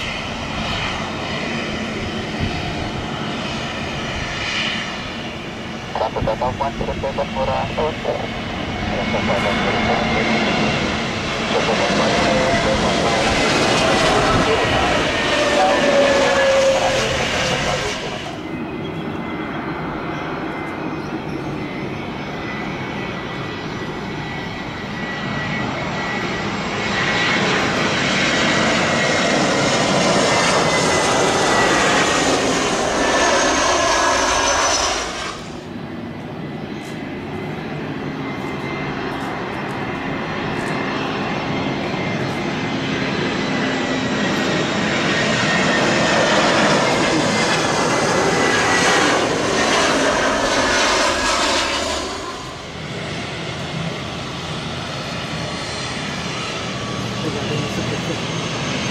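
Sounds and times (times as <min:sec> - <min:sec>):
jet airliner passing overhead: 0:00.0 - 0:58.9.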